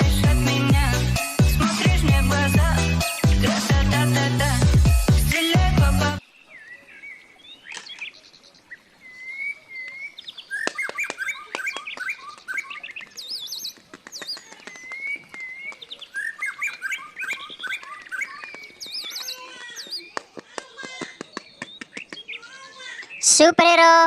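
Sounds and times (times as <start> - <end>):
birds chirping and whistling: 0.0 - 3.7, 6.2 - 20.2, 21.1 - 23.3.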